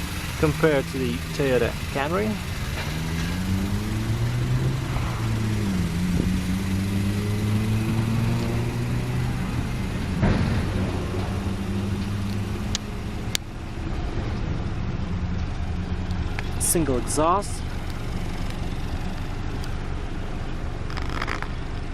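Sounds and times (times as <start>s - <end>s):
rush of noise: 0.0s - 19.9s
car engine idling: 0.0s - 21.9s.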